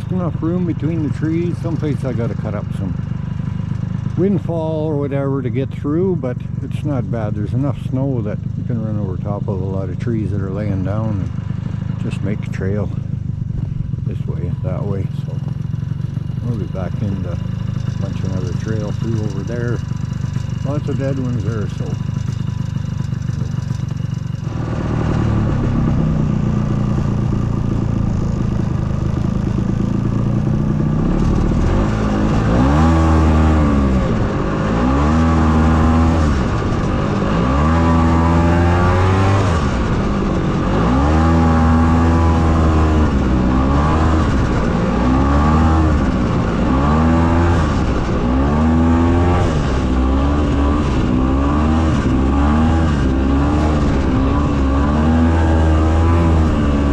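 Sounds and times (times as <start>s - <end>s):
snowmobile engine revving: 0.0s - 56.9s.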